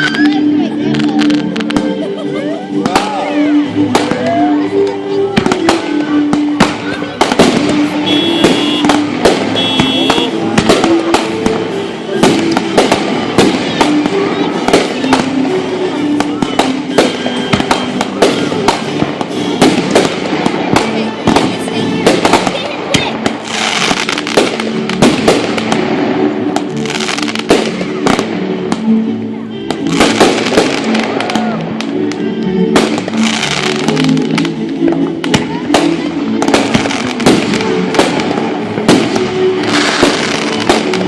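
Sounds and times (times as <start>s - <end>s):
fireworks bangs and cracks: 0.0s - 28.9s, 29.7s - 41.0s.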